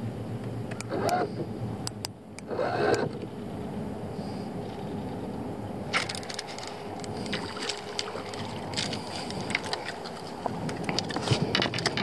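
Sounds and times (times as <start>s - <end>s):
low water and boat noise: 0.0s - 12.0s.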